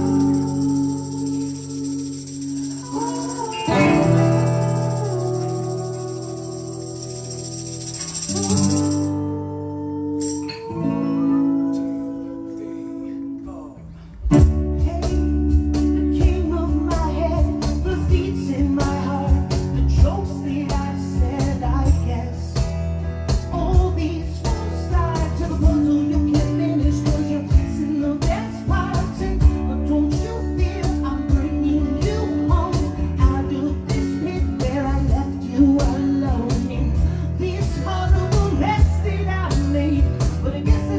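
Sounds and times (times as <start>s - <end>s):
person singing: 0.0s - 22.6s, 23.5s - 40.9s
acoustic rock band playing: 0.0s - 40.9s
strummed acoustic guitars: 0.0s - 40.9s.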